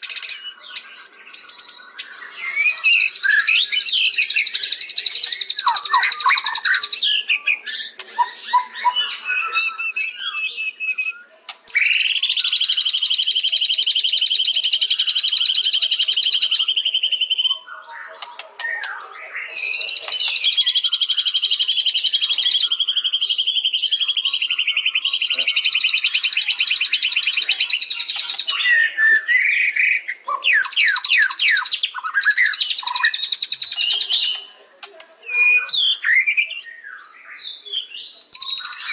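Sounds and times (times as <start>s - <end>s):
bird whistling phrases: 0.0s - 34.5s.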